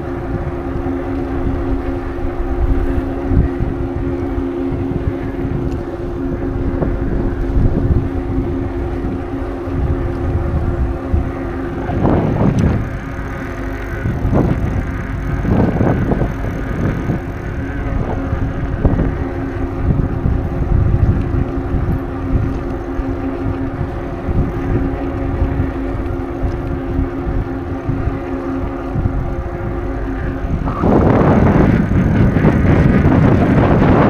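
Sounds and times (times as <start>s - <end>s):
steady hum: 0.0s - 34.0s
wind buffeting microphone: 0.0s - 34.0s.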